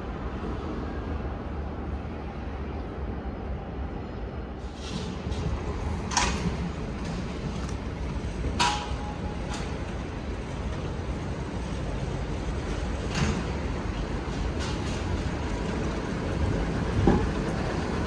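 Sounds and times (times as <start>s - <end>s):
city street noise: 0.0s - 18.0s.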